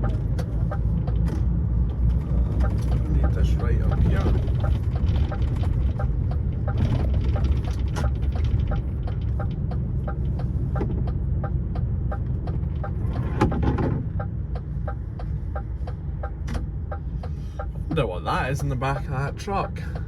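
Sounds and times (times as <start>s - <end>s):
engine and road rumble: 0.0s - 20.0s
turn signal ticking: 0.0s - 20.0s.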